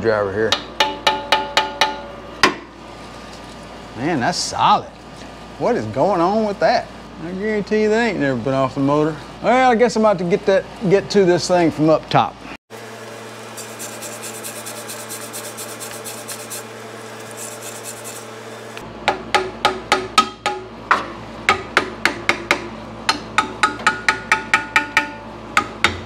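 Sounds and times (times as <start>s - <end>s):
steady hum with hiss: 0.0s - 26.0s.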